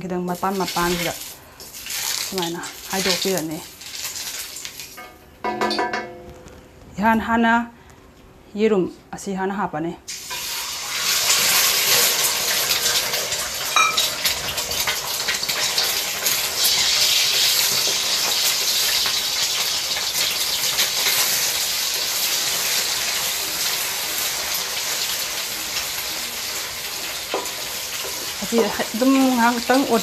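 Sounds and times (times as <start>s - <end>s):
eggs sizzling in hot oil: 0.0s - 5.0s, 10.1s - 30.0s.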